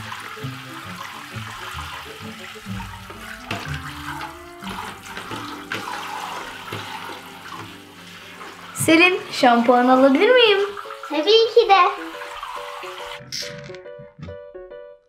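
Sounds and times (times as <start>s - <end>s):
shower head spraying water: 0.0s - 13.2s
water splashes: 0.0s - 13.3s.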